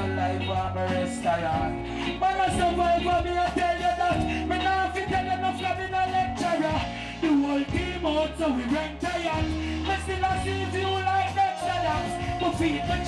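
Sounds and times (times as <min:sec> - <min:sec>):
man singing: 0:00.0 - 0:13.0
reggae band playing: 0:00.0 - 0:13.0.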